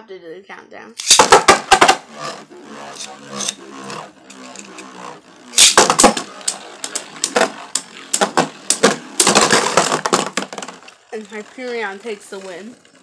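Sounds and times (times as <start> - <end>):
spinning tops clashing and rattling: 1.0 - 13.0.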